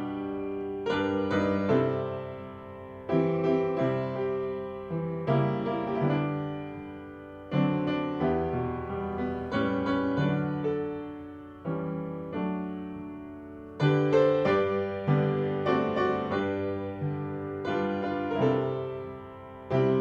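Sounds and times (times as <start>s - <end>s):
piano playing slow hymn: 0.0s - 20.0s.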